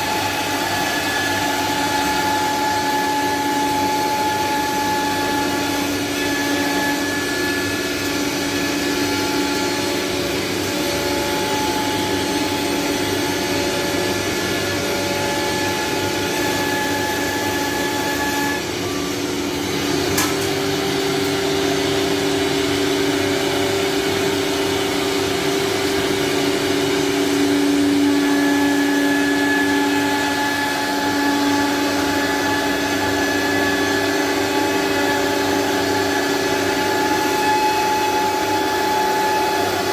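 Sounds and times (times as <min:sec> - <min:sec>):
wood router whirring hum: 0:00.0 - 0:39.9.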